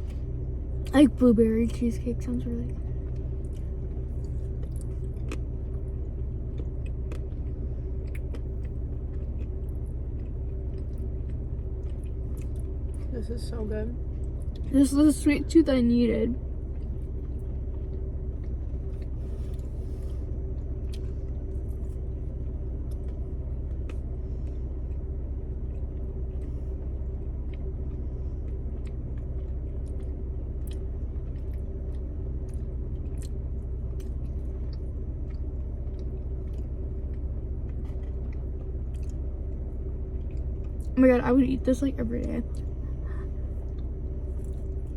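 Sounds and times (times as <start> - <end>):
car idling hum inside cabin: 0.0 - 44.9
person chewing food: 2.9 - 13.1, 16.6 - 41.0, 42.4 - 44.9.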